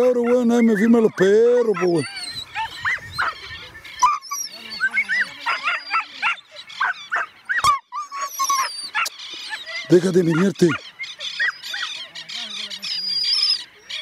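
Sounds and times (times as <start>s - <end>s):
dogs yelping and whining: 0.0s - 12.2s, 12.8s - 14.0s.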